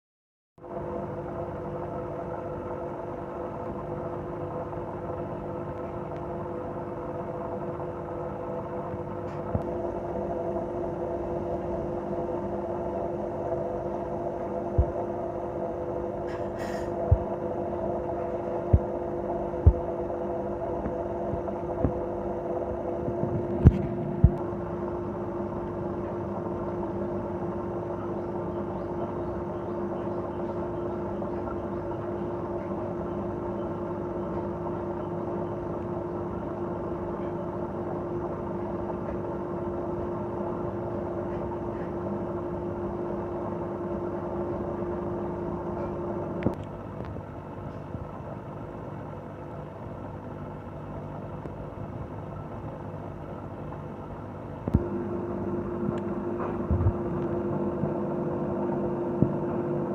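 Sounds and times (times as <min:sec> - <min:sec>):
aquarium pump humming: 0:00.6 - 0:59.9.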